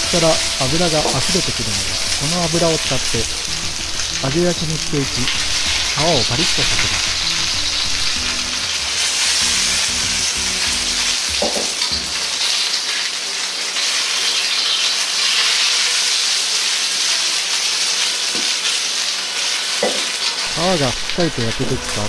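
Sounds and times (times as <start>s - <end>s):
chicken sizzling in a wok: 0.0s - 22.0s.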